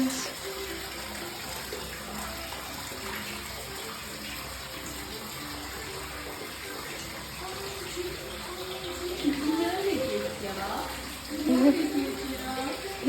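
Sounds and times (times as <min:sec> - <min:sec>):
water rushing in tub: 0:00.0 - 0:13.0.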